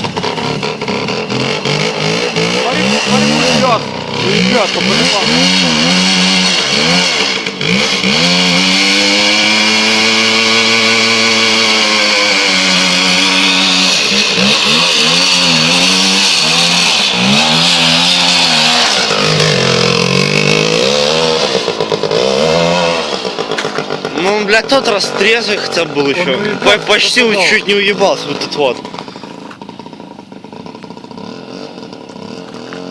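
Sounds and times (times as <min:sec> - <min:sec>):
two-stroke motorcycle engine revving: 0:00.0 - 0:32.9.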